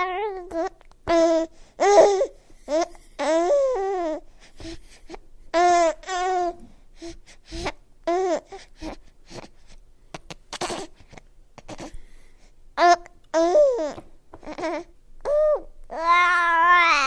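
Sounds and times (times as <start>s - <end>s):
baby babbling and cooing: 0.0s - 9.6s, 10.2s - 11.9s, 12.8s - 17.0s.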